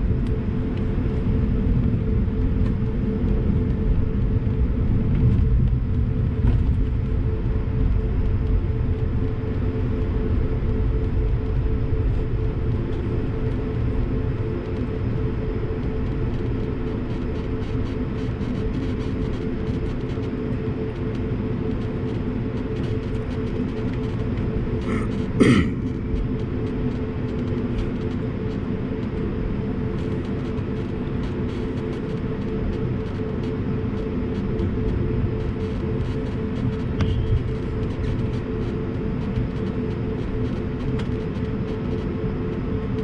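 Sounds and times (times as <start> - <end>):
constant hum: 0.0 - 43.0
jet engine drone and airflow: 0.0 - 43.0.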